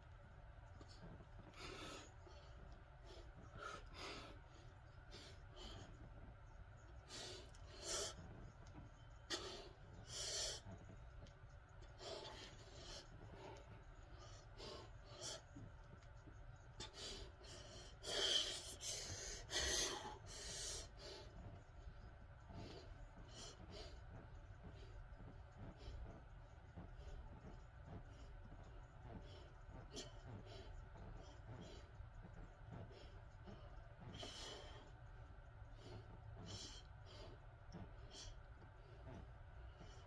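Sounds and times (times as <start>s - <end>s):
man breathing hard: 1.0s - 6.3s, 6.9s - 11.0s, 11.8s - 35.0s.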